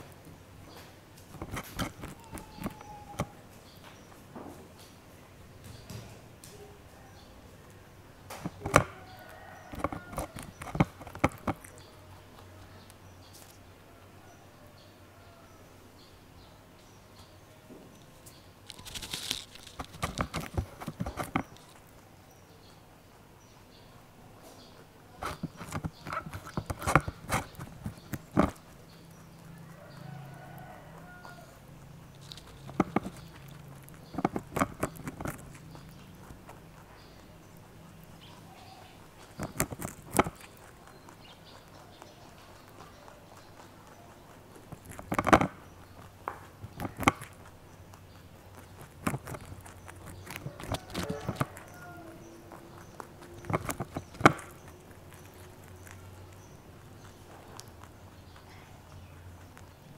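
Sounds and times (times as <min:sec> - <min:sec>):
rabbit crunching cauliflower: 0:00.0 - 0:15.4, 0:16.1 - 0:59.9.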